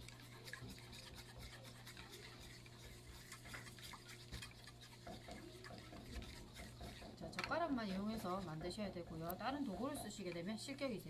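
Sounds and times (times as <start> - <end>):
chopsticks scraping frying pan: 0.0 - 10.5
steady low hum: 0.0 - 11.0.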